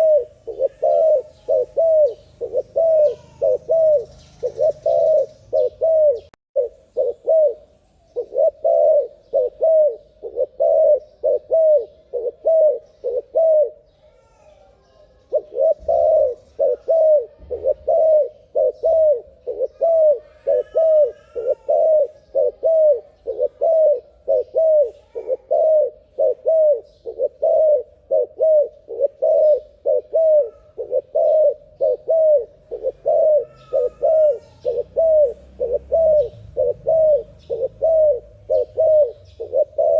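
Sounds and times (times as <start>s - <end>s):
faint high bird chirps: 0.0s - 27.6s, 28.4s - 39.9s
dove cooing: 0.0s - 39.9s.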